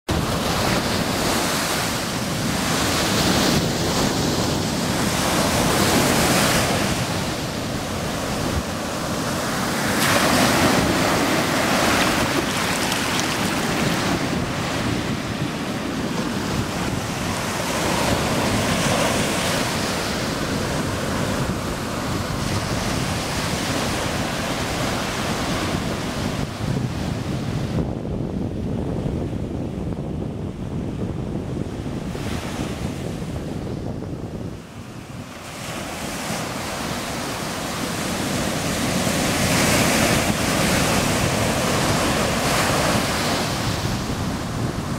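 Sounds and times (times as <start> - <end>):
ocean surf breaking: 0.1 - 27.5, 34.7 - 44.9
wind rumbling on microphone: 0.1 - 44.9.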